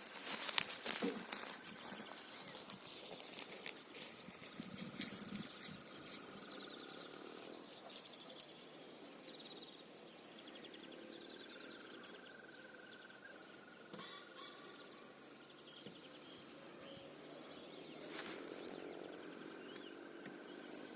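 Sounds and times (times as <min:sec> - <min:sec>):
birds chirping faintly: 0:00.0 - 0:20.9.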